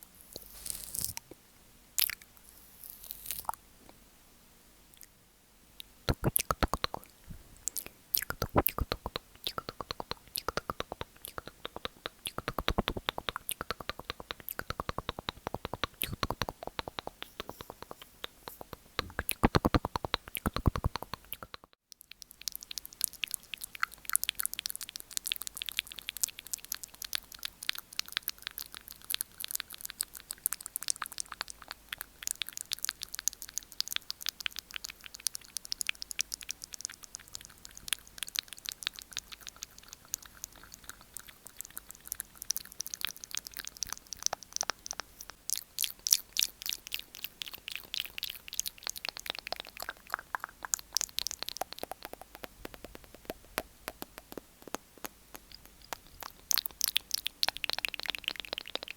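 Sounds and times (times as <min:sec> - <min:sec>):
wet tongue and lip clicks: 0:02.0 - 0:04.0, 0:04.9 - 0:05.2, 0:05.8 - 0:58.9.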